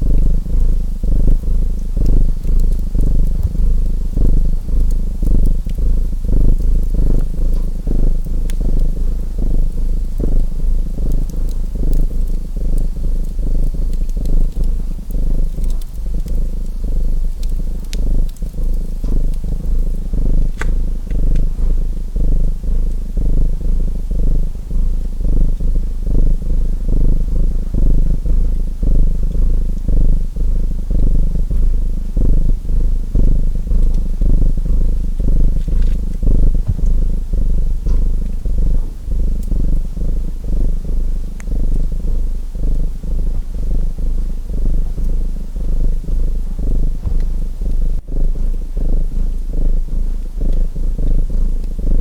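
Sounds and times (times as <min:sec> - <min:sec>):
cat purring: 0:00.0 - 0:52.0
wood fire crackling: 0:00.1 - 0:25.6, 0:28.8 - 0:48.0.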